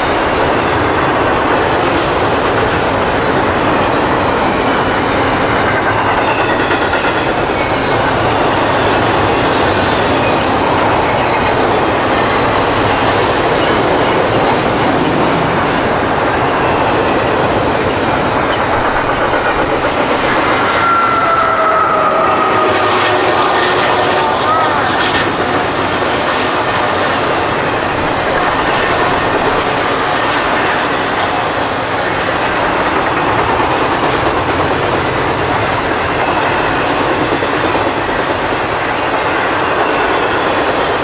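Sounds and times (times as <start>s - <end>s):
freight train rolling past: 0.0s - 41.0s.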